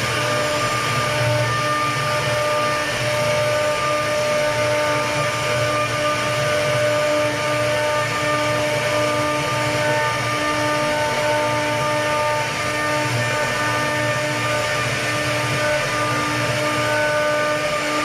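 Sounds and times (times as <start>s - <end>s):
bit rasping through wood: 0.0s - 18.0s
router spindle whine: 0.0s - 18.0s.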